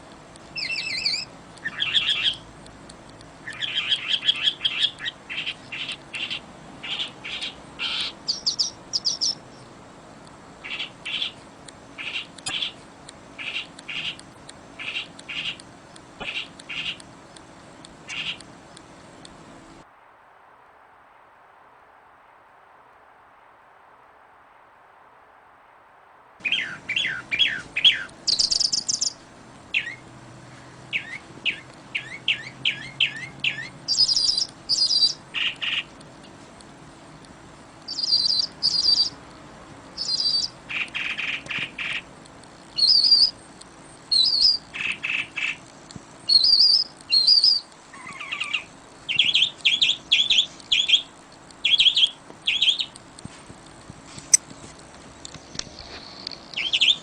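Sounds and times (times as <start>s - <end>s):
songbirds chirping: 0.0s - 19.8s, 26.4s - 57.0s
wind hiss: 0.0s - 57.0s.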